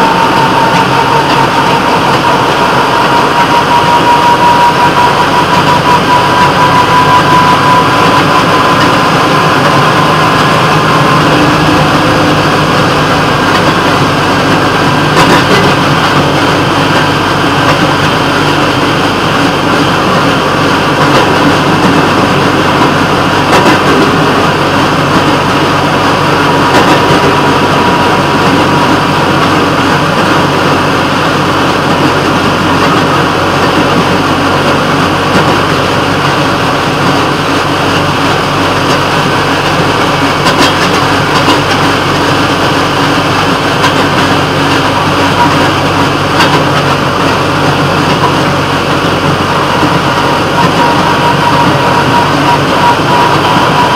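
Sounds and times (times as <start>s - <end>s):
train engine running: 0.0s - 53.9s.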